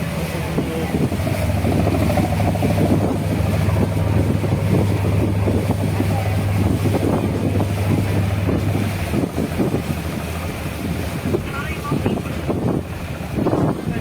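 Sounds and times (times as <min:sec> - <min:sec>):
boat diesel engine running: 0:00.0 - 0:14.0
water rushing past hull: 0:00.0 - 0:14.0
wind buffeting microphone: 0:00.0 - 0:14.0.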